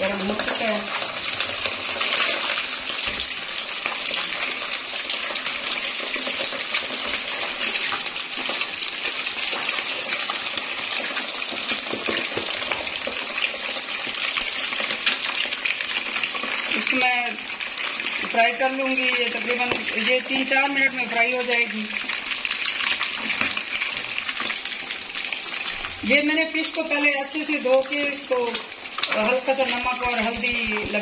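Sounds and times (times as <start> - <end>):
fish sizzling in hot oil: 0.0 - 31.0.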